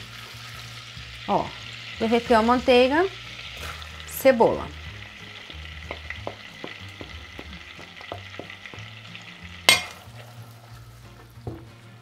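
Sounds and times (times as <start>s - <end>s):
onion sizzling in a pot: 0.0s - 12.0s.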